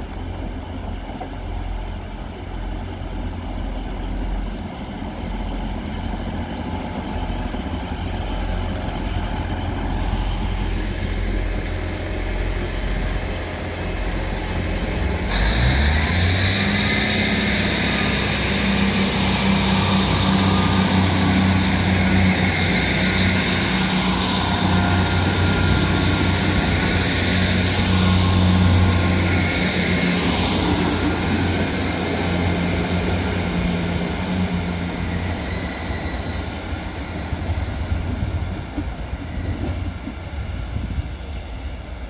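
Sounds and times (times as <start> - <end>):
train engine drone: 0.0 - 42.0
wheel and rail noise: 0.0 - 42.0.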